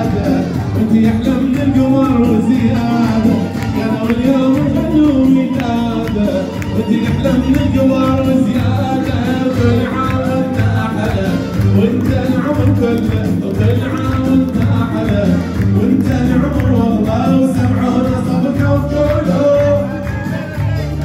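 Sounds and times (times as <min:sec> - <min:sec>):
man singing into a microphone: 0:00.0 - 0:21.0
music over pa system: 0:00.0 - 0:21.0.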